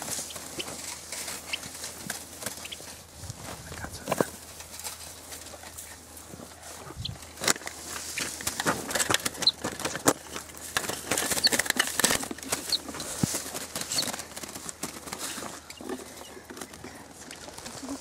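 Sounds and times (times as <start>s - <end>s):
birds fluttering against wire mesh: 0.0s - 18.0s
rustling of wire and dry grass: 0.0s - 18.0s.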